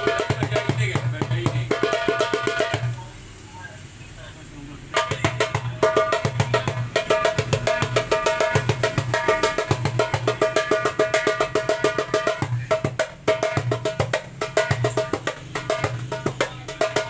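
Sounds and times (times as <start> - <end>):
hand drum fast rhythm: 0.0 - 3.0, 4.9 - 17.0.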